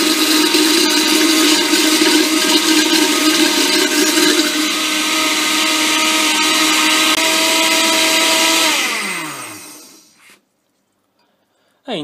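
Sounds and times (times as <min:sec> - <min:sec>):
blender motor whining: 0:00.0 - 0:10.3.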